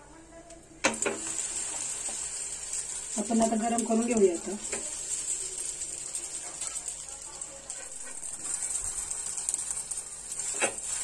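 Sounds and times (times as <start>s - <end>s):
butter sizzling in a frying pan: 0.9s - 11.0s.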